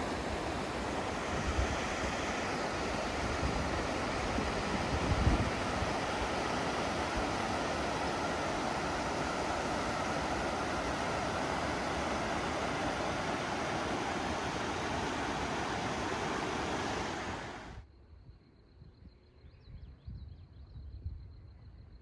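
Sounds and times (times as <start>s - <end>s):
water rushing over small dam: 0.0s - 17.8s.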